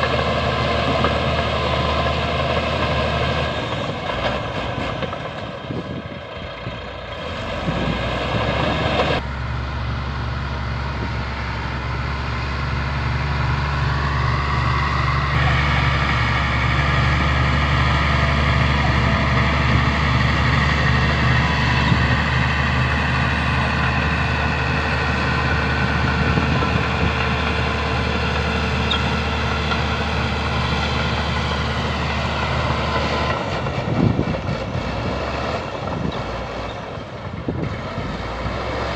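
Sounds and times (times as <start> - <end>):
heavy diesel engine revving: 0.0 - 38.9.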